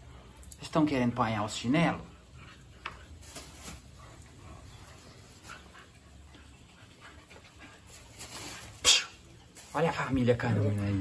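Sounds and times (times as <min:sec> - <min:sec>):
puppies panting and scuffling: 0:01.4 - 0:11.0.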